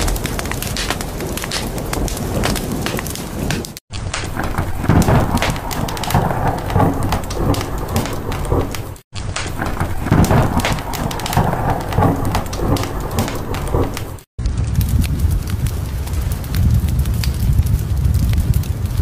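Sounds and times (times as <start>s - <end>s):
fireplace crackling: 0.0s - 19.0s
rain: 0.0s - 19.0s
rolling thunder: 0.0s - 19.0s.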